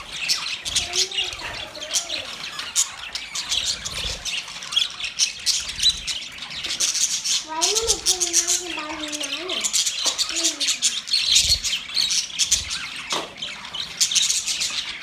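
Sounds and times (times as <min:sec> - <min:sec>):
budgerigars chirping and squawking: 0:00.0 - 0:15.0.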